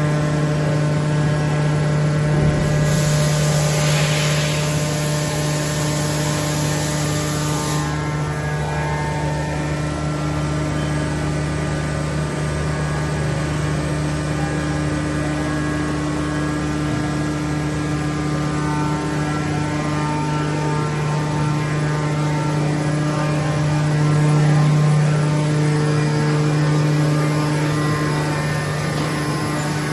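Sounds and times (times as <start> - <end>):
machine tools humming and whining: 0.0 - 29.9.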